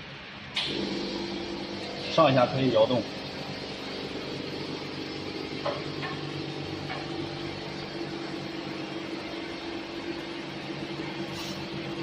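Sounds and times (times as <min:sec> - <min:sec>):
machine hum with low drone: 0:00.0 - 0:12.0.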